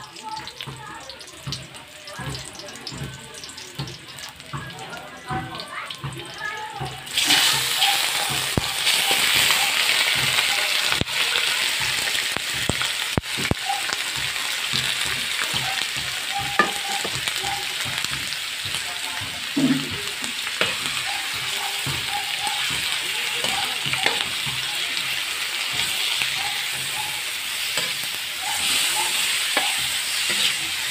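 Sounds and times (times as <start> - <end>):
meat sizzling in hot oil: 0.0 - 30.9.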